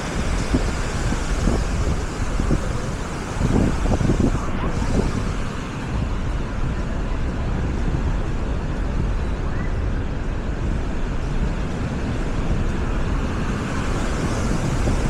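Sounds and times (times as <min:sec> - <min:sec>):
waves washing on shore: 0:00.0 - 0:08.9, 0:10.3 - 0:15.0
wind on microphone: 0:00.0 - 0:15.0.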